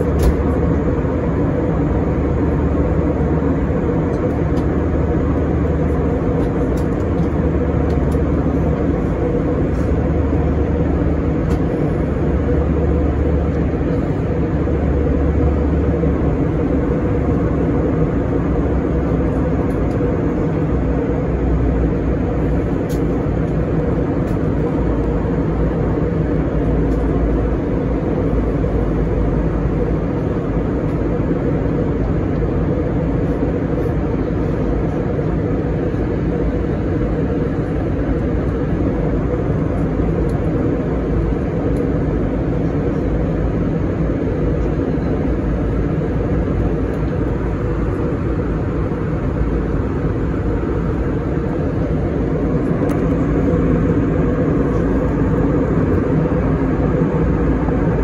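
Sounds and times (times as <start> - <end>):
airplane cabin airflow rush: 0.0 - 58.0
jet engine drone: 0.0 - 58.0
low hum: 0.0 - 58.0.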